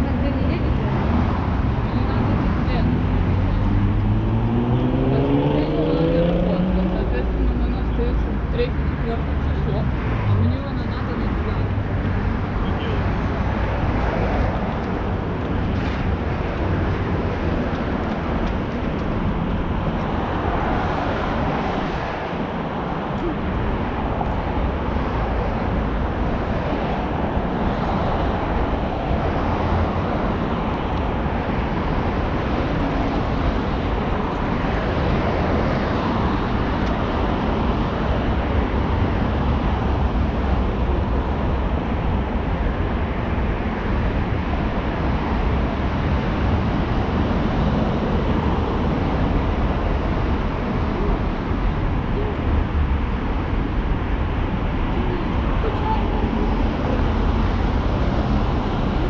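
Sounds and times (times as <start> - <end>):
traffic going by: 0.0 - 59.0.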